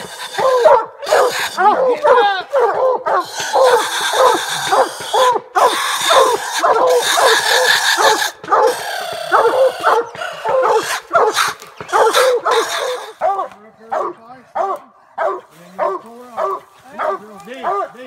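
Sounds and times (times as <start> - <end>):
hounds barking rapidly: 0.0 - 18.0.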